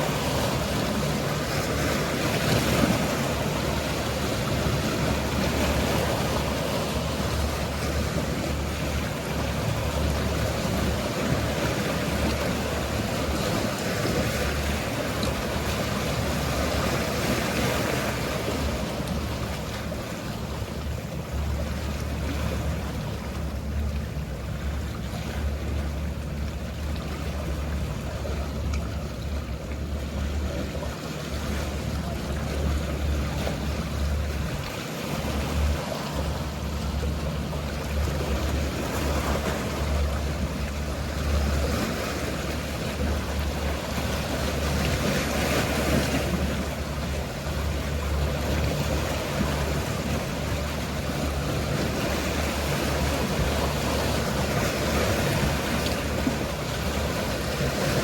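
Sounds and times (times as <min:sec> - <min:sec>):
low hum of boat engines: 0:00.0 - 0:58.0
sea waves washing: 0:00.0 - 0:58.0.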